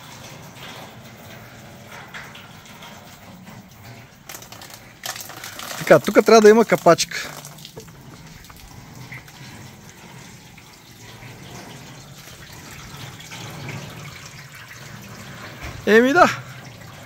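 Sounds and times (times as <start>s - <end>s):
water running through gutters: 0.0s - 17.0s.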